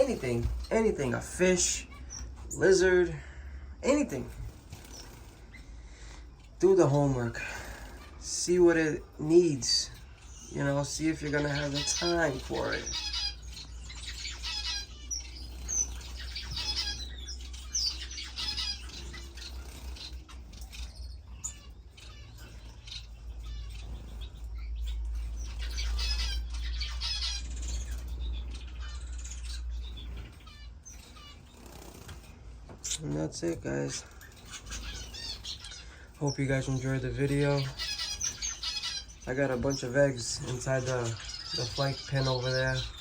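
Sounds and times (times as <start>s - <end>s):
finches chirping: 0.0s - 43.0s
wings fluttering: 3.8s - 43.0s.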